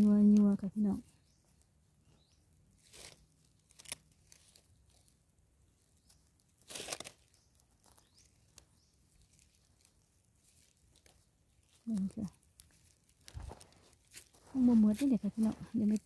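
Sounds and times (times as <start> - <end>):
fingers scraping dry soil: 0.0 - 16.0.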